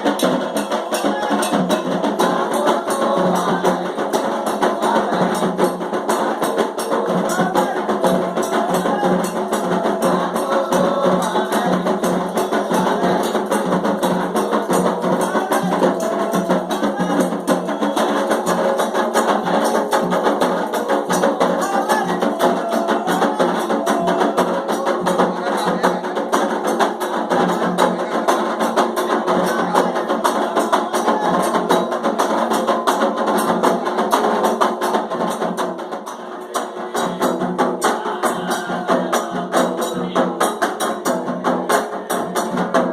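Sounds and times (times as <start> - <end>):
ceremonial music with fast percussion: 0.0 - 42.9.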